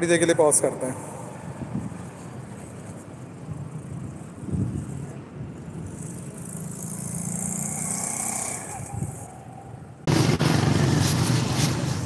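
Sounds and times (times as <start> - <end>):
dense traffic rumble: 0.0 - 12.0
passing vehicle engine hum: 0.0 - 12.0.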